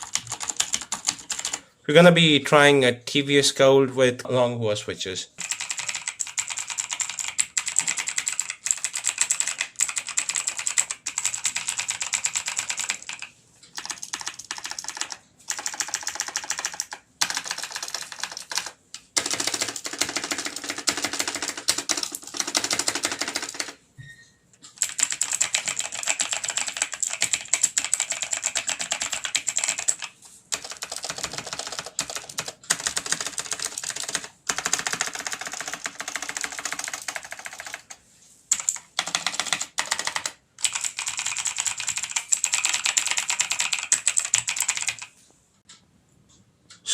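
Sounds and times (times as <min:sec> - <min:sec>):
mechanical keyboard typing: 0:00.0 - 0:01.6, 0:05.4 - 0:23.8, 0:24.7 - 0:45.1.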